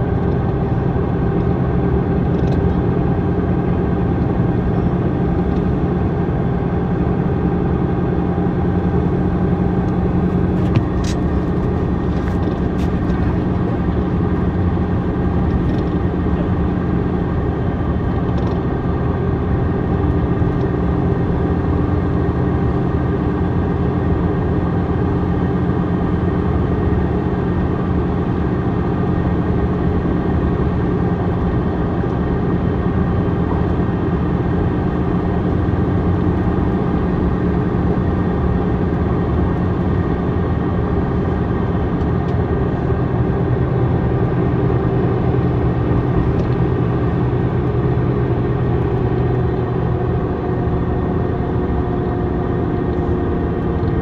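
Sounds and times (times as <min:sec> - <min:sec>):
diesel bus engine running: 0:00.0 - 0:54.0.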